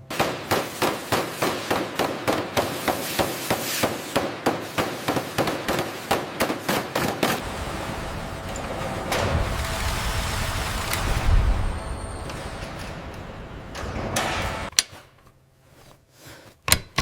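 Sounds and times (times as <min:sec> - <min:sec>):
hammer blows: 0:00.0 - 0:14.8.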